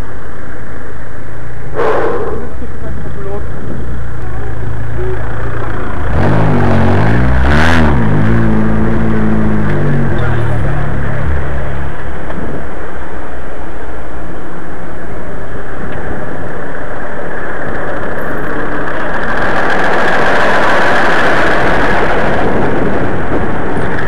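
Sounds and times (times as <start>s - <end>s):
road noise: 0.0s - 24.0s
wind rushing on microphone: 0.7s - 6.4s, 8.0s - 24.0s.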